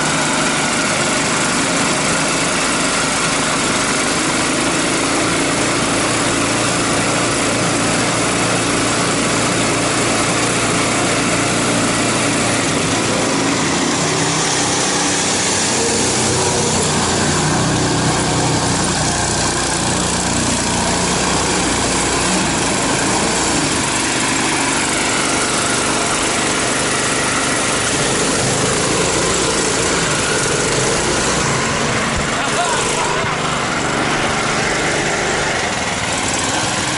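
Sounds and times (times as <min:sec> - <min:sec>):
small vehicle engine running: 0:00.0 - 0:36.9.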